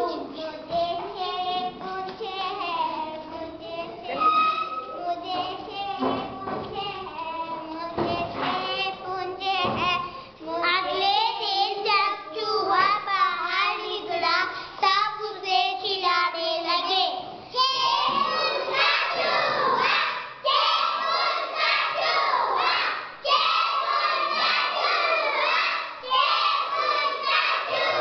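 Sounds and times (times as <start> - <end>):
children singing: 0.0 - 14.3, 17.6 - 28.0.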